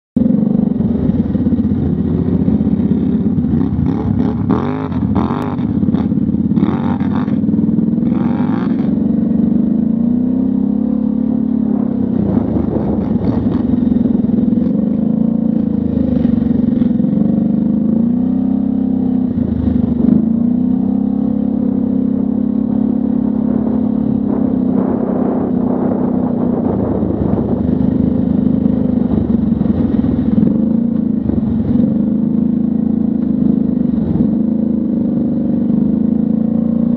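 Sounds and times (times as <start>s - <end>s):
atv engine running: 0.2s - 36.9s.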